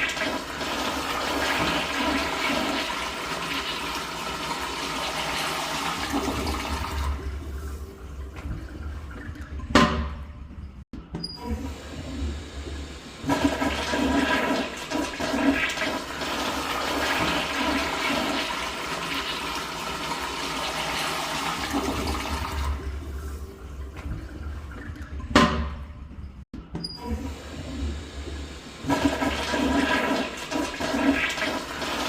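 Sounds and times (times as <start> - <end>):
toilet flushing: 0.0 - 10.6, 11.3 - 26.2, 26.8 - 32.0.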